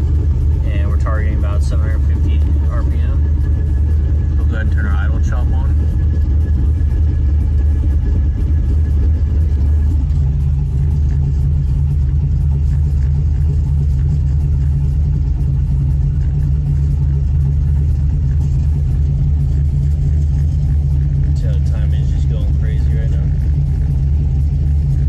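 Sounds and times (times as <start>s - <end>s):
car engine idling unevenly: 0.0s - 25.0s.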